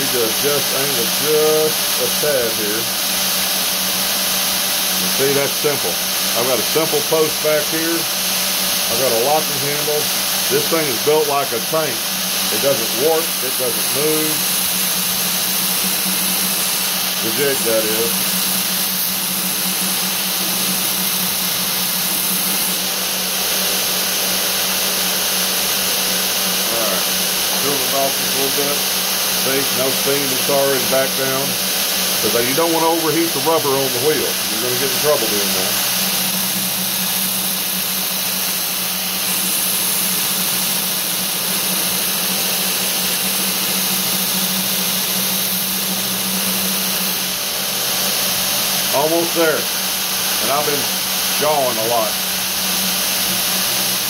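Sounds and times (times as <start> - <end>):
belt grinder hissing on blade: 0.0 - 54.0
motor hum: 0.0 - 54.0.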